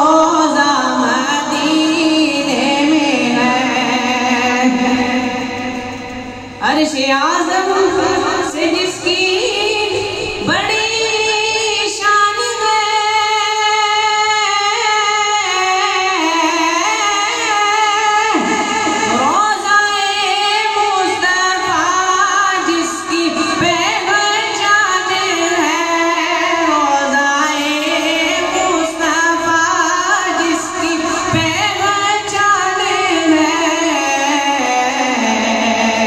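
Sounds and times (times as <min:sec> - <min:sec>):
boy singing into a microphone: 0:00.0 - 0:36.0.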